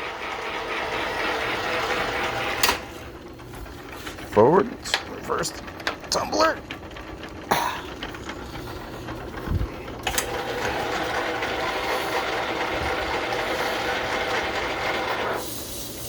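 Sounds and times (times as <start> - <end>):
lathe gear clatter: 0.0 - 16.0.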